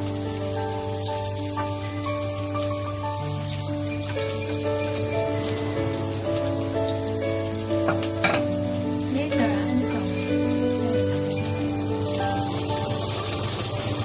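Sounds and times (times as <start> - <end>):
soft background music: 0.0 - 14.0
spices sizzling in hot oil: 0.0 - 14.0.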